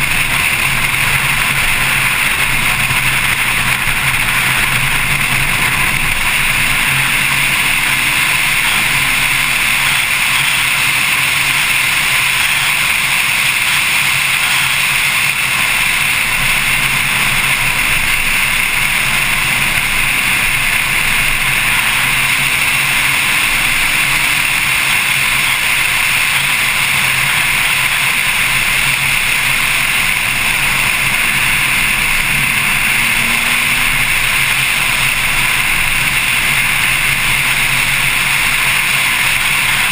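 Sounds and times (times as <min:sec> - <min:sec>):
faint car engine: 0:00.0 - 0:39.9
wind and road noise: 0:00.0 - 0:39.9.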